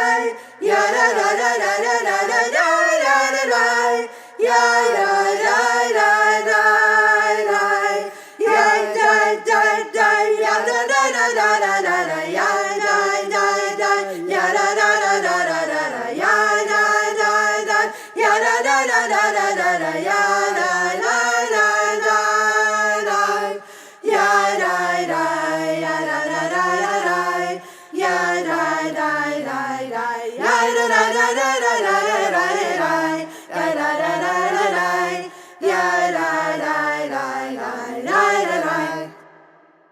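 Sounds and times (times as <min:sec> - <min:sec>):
unaccompanied voices singing: 0:00.0 - 0:39.6.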